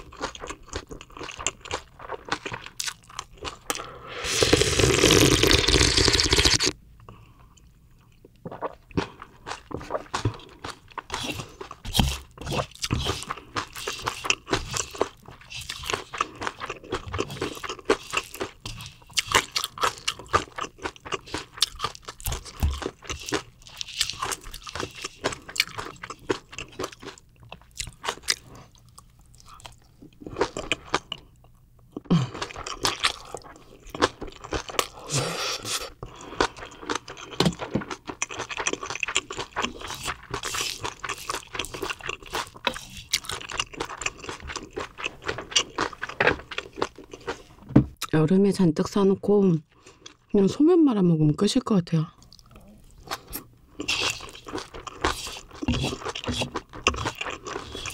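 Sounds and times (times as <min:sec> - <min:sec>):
chewing crunchy food: 0:00.0 - 0:48.1, 0:49.7 - 0:50.4, 0:52.2 - 0:57.9.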